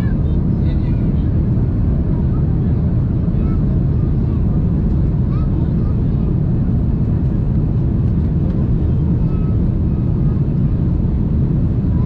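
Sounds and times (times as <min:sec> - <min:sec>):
jet engines and airflow: 0:00.0 - 0:12.0.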